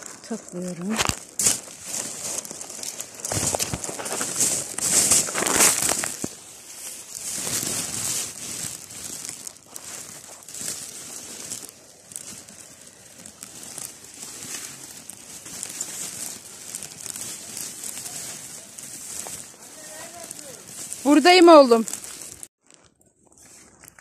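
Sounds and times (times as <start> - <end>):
leaves and stems rustling: 0.0 - 24.0
plastic bag crinkling: 0.0 - 24.0.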